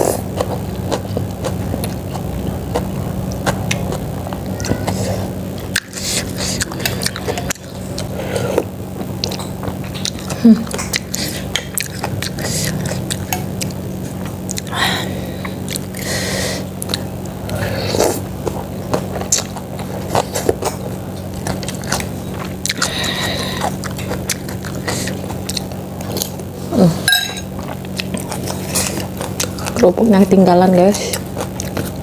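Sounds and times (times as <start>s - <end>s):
person chewing and biting: 0.0s - 14.7s, 16.6s - 26.5s, 27.4s - 29.8s, 31.1s - 32.0s
steady low hum: 0.0s - 32.0s.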